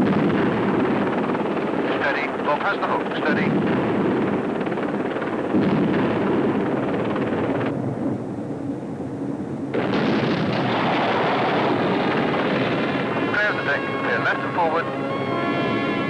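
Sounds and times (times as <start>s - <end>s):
helicopter rotor and turbine noise: 0.0s - 16.0s.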